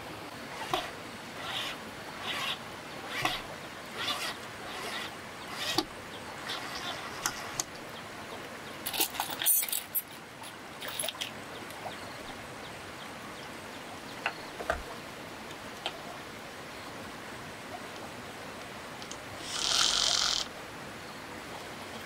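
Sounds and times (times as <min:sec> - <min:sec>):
flowing river water: 0:00.0 - 0:22.0.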